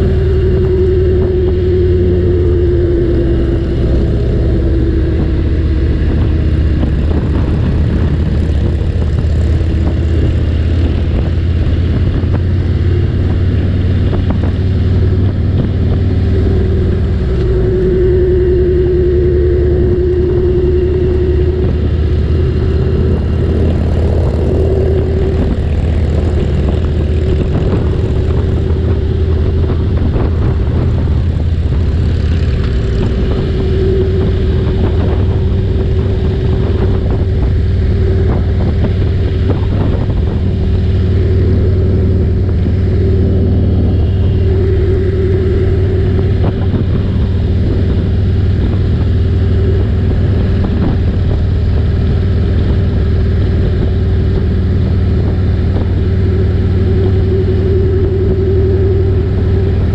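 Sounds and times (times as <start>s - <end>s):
motorcycle engine cruising: 0.0s - 59.9s
road and wind noise: 0.0s - 59.9s.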